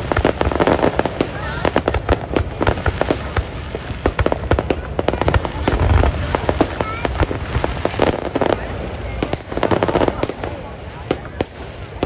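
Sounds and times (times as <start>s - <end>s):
deep firework boom: 0.0s - 12.0s
fireworks bangs and crackles: 0.0s - 12.0s.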